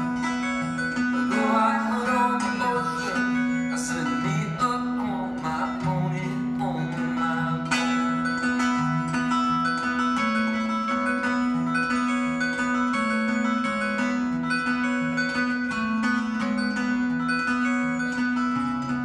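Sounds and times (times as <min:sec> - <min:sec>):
acoustic guitar duet: 0:00.0 - 0:19.0.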